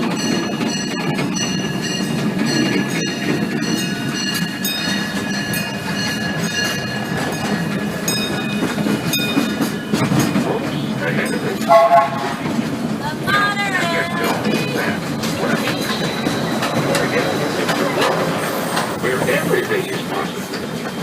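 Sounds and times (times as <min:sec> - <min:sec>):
train rumbling along track: 0:00.0 - 0:21.0.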